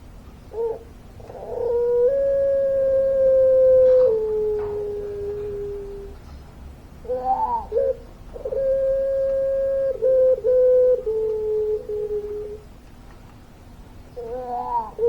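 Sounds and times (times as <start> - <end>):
dove cooing: 0.0 - 6.4, 7.0 - 12.8, 14.1 - 15.0.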